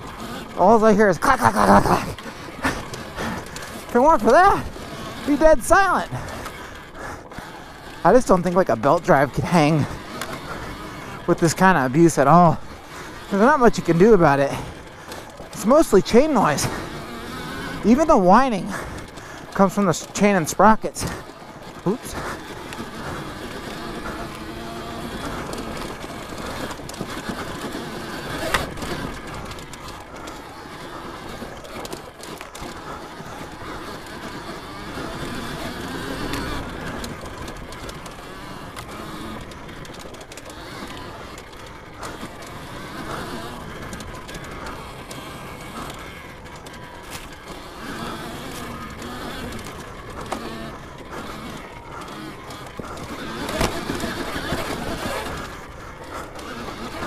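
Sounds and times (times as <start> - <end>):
bike drive chain clacking: 0.0 - 57.0
chain and sprockets whining: 0.0 - 57.0.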